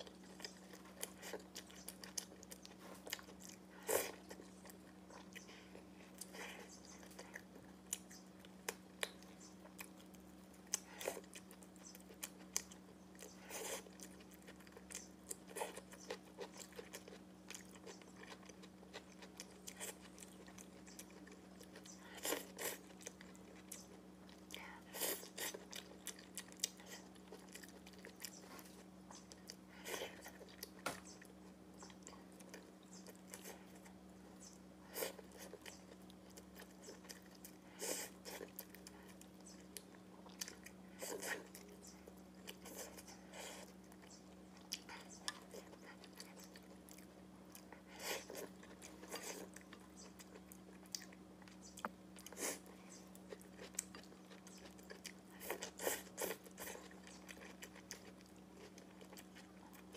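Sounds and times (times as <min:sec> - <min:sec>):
chewing and mouth smacks: 0:00.0 - 0:59.9
faint low hum: 0:00.0 - 0:59.9.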